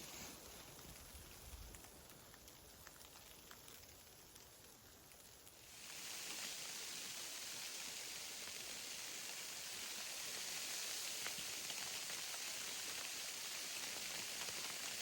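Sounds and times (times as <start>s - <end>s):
snow hissing on a tarp: 0.0s - 15.0s.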